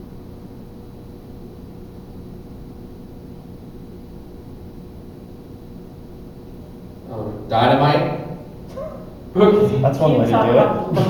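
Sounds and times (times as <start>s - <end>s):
faint steady hum: 0.0s - 11.0s
low rumble and hiss: 0.0s - 11.0s.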